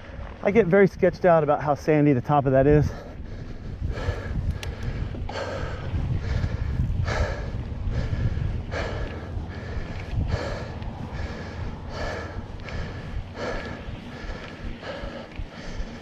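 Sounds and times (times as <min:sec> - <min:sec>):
wind on microphone: 0:00.0 - 0:16.0
person breathing hard: 0:02.8 - 0:16.0.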